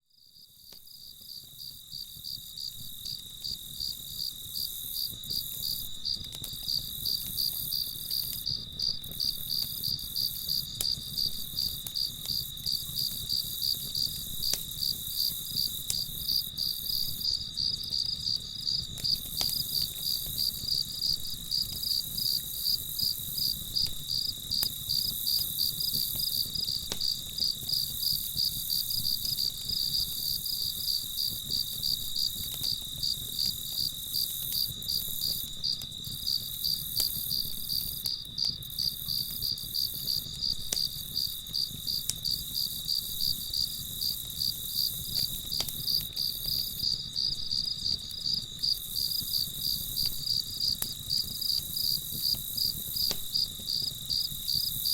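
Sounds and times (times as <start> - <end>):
crickets chirping: 0.2 - 54.9.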